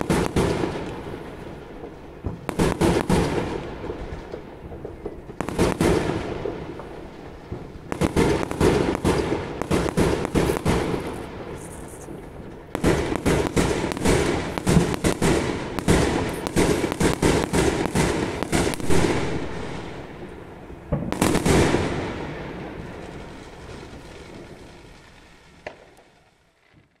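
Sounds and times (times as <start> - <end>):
fireworks cracking and banging: 0.0 - 27.0.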